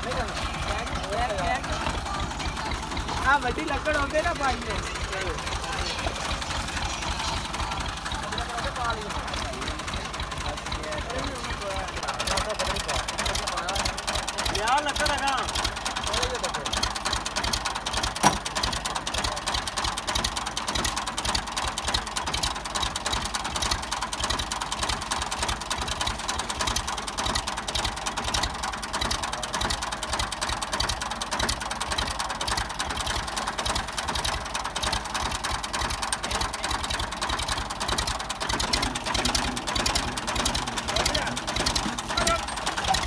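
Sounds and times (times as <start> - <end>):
tractor diesel engine idling: 0.0 - 43.0.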